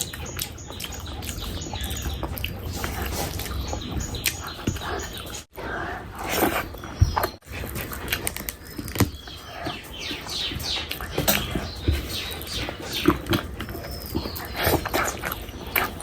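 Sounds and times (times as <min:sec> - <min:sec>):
wet chewing and smacking: 0:00.0 - 0:16.0.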